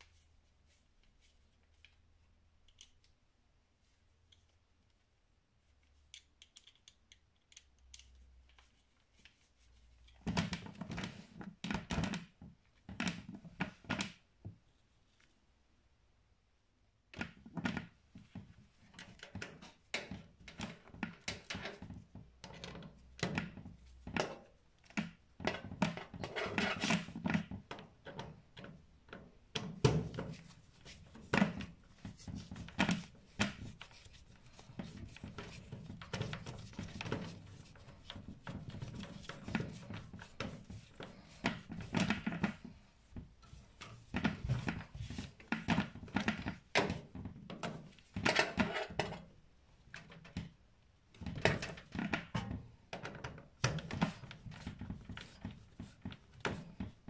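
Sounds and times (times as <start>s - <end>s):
small clicks taps and rubbing: 0.0s - 3.2s, 3.9s - 5.1s, 5.7s - 15.4s, 17.1s - 57.0s.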